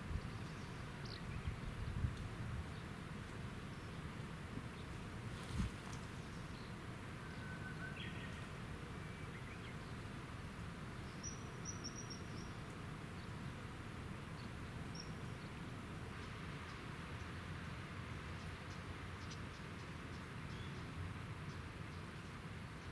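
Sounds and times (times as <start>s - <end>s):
outdoor background hiss: 0.0s - 22.9s.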